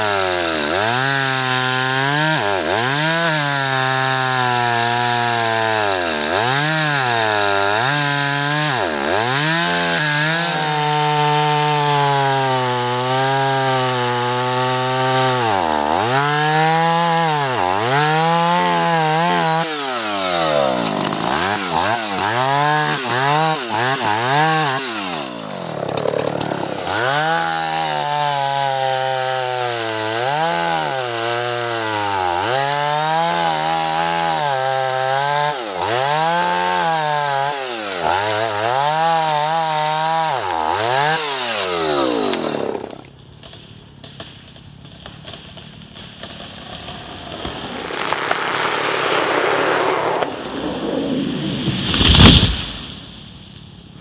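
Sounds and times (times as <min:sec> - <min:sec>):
chainsaw cutting wood: 0:00.0 - 0:53.2.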